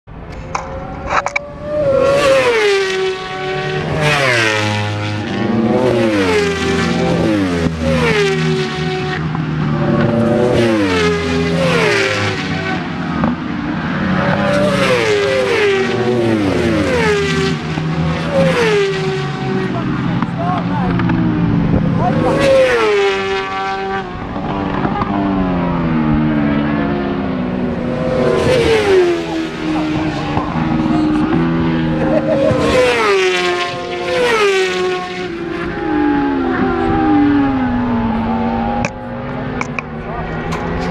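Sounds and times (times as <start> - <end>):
racing motorcycles passing: 0.1 - 40.9.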